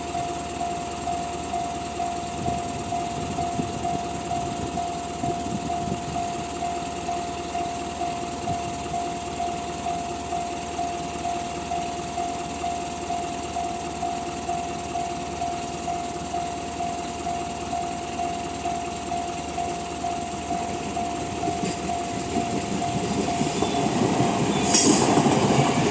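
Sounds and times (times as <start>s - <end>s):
level-crossing warning bell: 0.0s - 25.9s.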